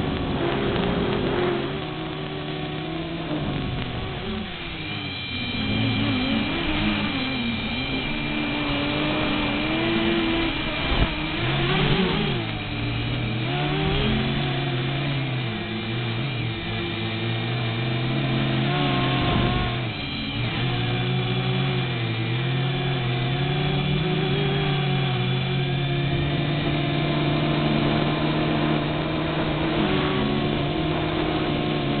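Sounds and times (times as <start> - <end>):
quadcopter propellers buzzing: 0.0 - 32.0.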